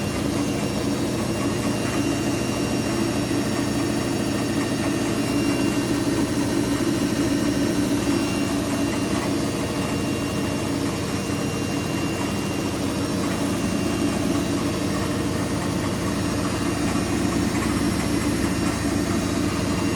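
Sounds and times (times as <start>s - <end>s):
washing machine spinning: 0.0s - 19.9s.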